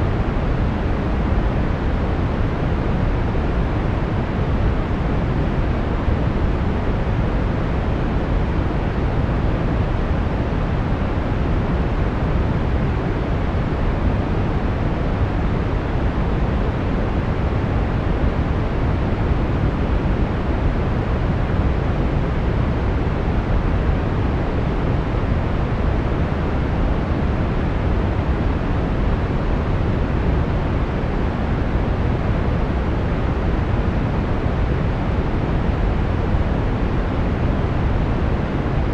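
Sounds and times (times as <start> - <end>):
brown noise hiss: 0.0 - 38.9.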